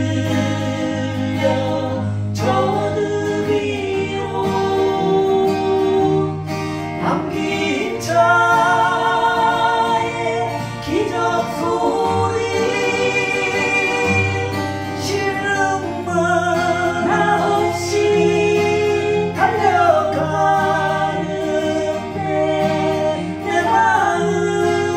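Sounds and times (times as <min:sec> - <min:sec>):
acoustic guitar: 0:00.0 - 0:24.9
person singing: 0:00.0 - 0:24.9.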